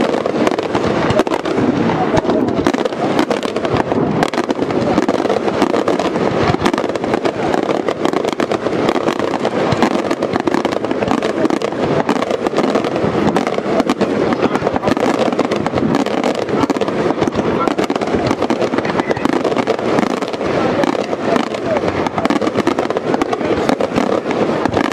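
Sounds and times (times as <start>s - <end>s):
firework shells bursting: 0.0s - 24.9s.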